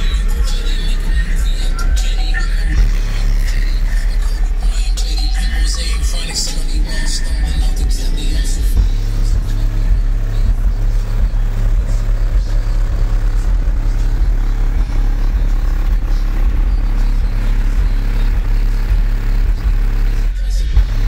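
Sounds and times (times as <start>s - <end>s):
subwoofers playing deep bass: 0.0s - 21.0s.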